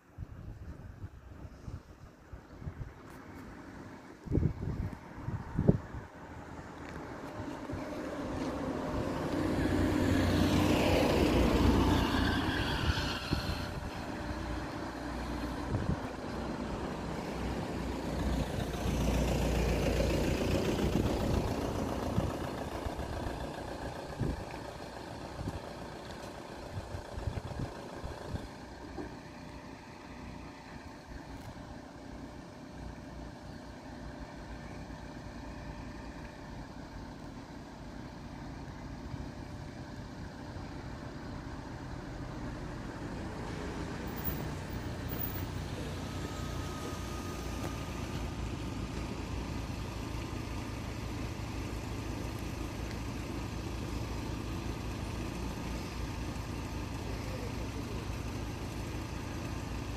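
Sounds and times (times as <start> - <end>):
car engines idling: 0.0 - 59.9
cars driving past: 2.4 - 59.9.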